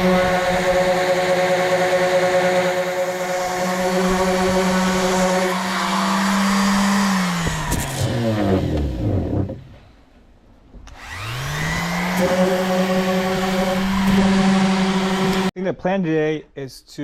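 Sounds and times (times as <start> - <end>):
power sander on wood: 0.0 - 9.6, 10.9 - 15.5.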